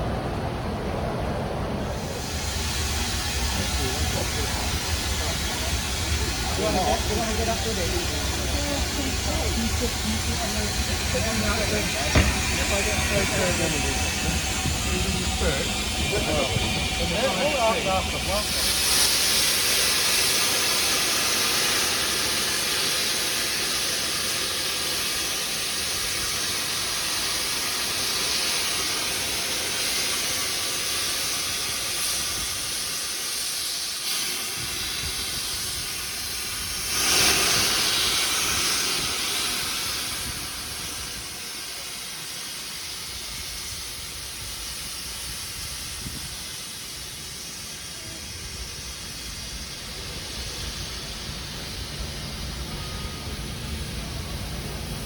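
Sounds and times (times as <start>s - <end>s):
steam locomotive hissing: 1.4s - 55.0s.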